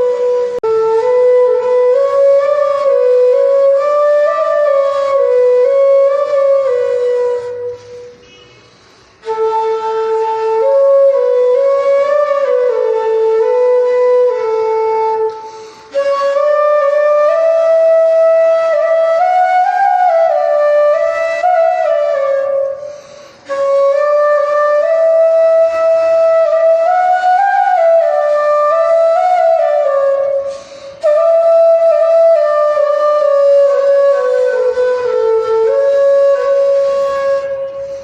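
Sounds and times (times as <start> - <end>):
flute melody: 0.0 - 38.0.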